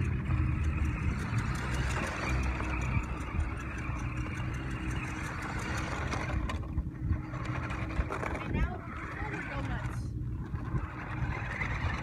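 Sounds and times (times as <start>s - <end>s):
toy truck motor and gears: 0.0s - 12.0s.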